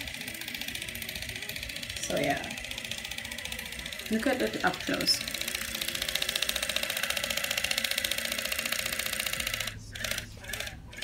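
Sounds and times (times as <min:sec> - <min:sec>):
electric cleansing brush buzzing: 0:00.0 - 0:11.0.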